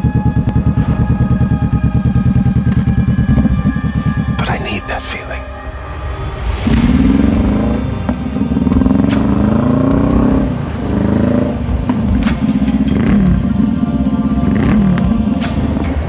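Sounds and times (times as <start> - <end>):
motorcycle engine accelerating: 0.0 - 4.4, 6.7 - 16.0
background music: 0.0 - 16.0.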